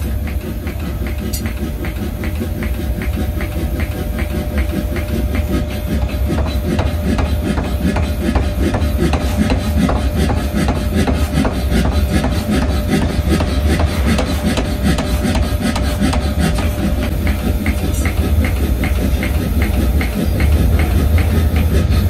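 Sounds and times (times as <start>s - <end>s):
machine low running rumble: 0.0s - 22.0s.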